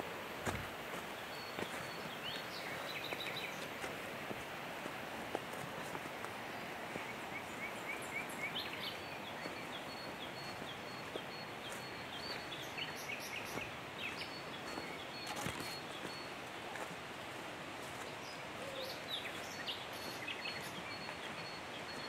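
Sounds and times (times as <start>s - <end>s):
forest birds calling: 0.0s - 22.0s.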